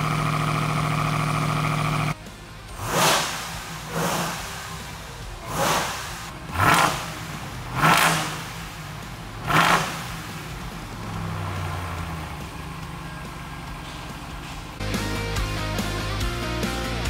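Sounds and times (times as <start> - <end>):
truck engine revving and idling: 0.0 - 17.0.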